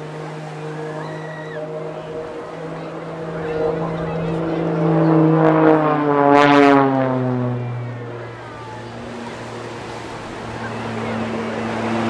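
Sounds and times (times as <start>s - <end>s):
biplane engine and propeller drone: 0.0s - 12.0s.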